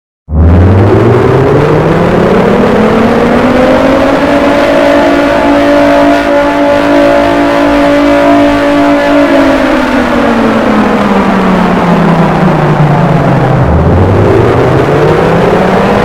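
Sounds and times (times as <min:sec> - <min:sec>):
alarm siren wailing: 0:00.3 - 0:16.0.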